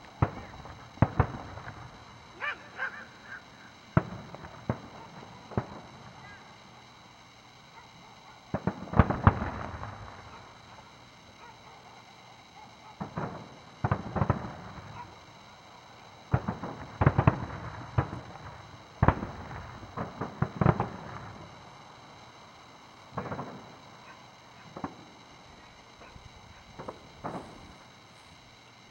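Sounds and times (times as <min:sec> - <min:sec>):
firework shells bursting: 0:00.0 - 0:28.9.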